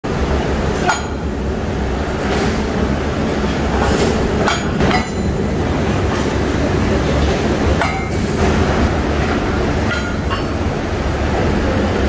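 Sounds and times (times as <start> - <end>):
low hum of machinery: 0.0 - 12.0.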